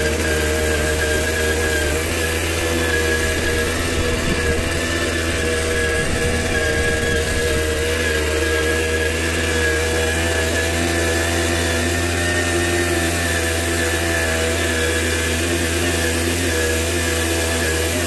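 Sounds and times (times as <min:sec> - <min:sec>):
moped two-stroke engine running: 0:00.0 - 0:18.0.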